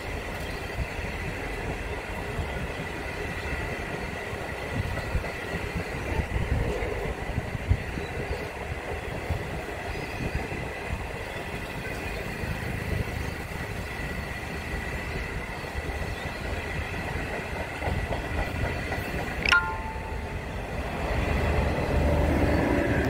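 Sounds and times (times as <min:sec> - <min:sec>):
wheels rumbling on rail: 0:00.0 - 0:23.0.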